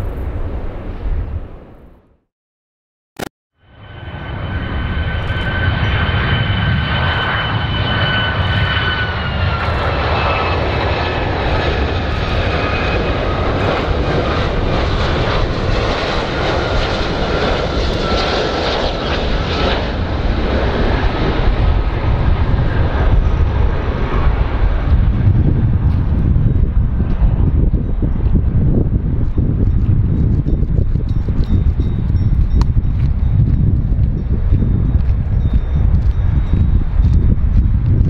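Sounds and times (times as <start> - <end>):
jet engines rumbling with fan whine: 3.6 - 38.0.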